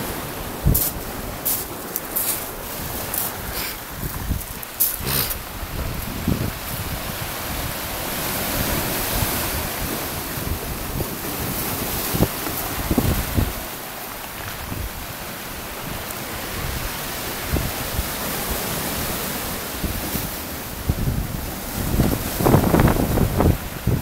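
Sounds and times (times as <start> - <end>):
wind buffeting microphone: 0.0 - 15.2, 19.8 - 24.0
waves breaking on rocks: 0.0 - 24.0.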